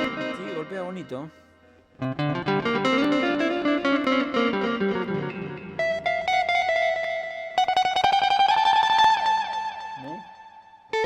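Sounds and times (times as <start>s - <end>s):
electric guitar single notes: 0.0s - 11.0s.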